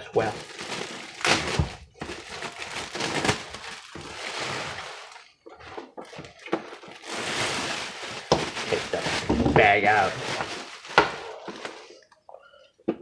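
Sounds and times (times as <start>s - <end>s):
plastic bag crinkling: 0.2s - 12.1s.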